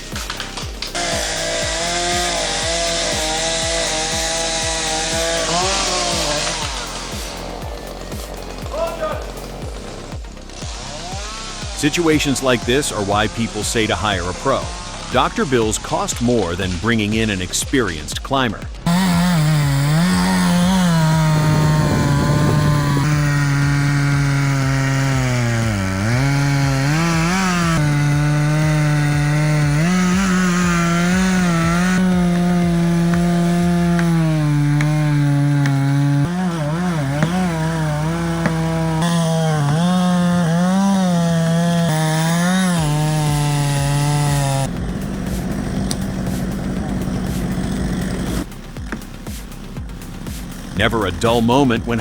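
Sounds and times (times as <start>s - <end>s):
chainsaw cutting at high revs: 0.0s - 52.0s.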